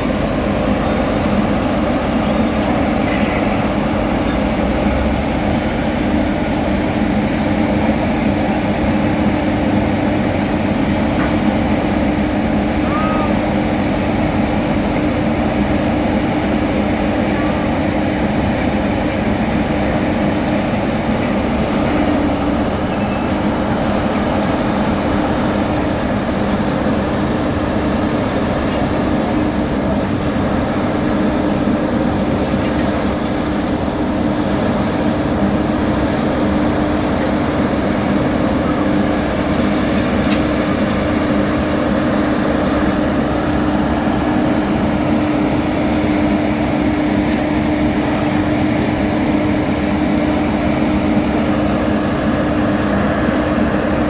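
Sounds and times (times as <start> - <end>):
diesel road machinery running: 0.0 - 54.0.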